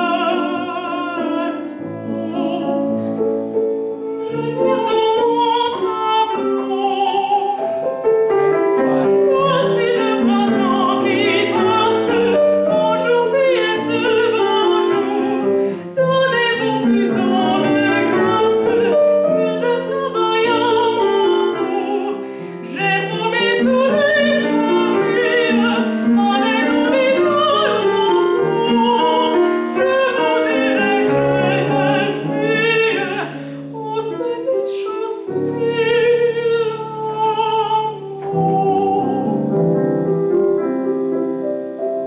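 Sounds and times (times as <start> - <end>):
woman singing operatic style: 0.0 - 39.6
grand piano: 0.0 - 42.0.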